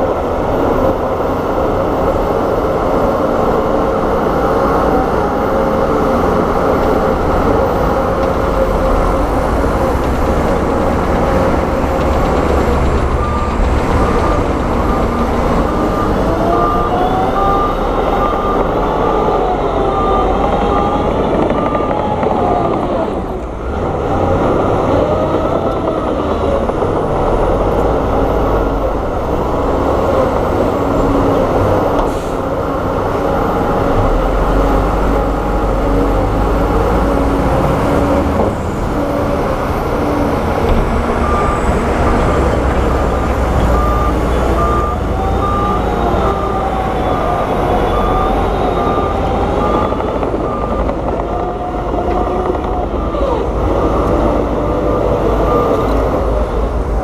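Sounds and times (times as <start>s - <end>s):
heavy diesel machinery engines: 0.0s - 57.0s.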